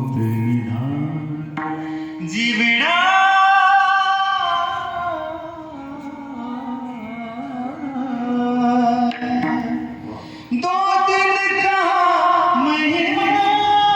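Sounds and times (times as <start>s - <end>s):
person singing devotional song: 0.0s - 13.9s.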